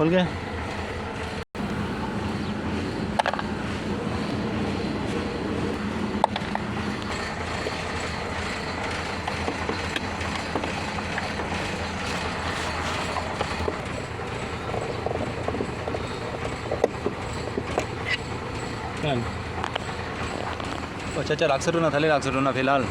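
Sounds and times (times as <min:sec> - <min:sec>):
machine running with low hum: 0:00.0 - 0:22.8.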